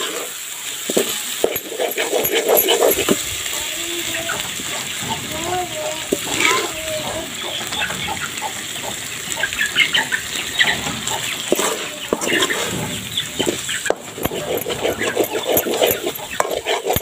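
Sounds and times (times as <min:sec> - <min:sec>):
food sizzling: 0:00.0 - 0:17.0
ladle scraping metal pot: 0:00.8 - 0:17.0
chickens clucking: 0:00.9 - 0:17.0.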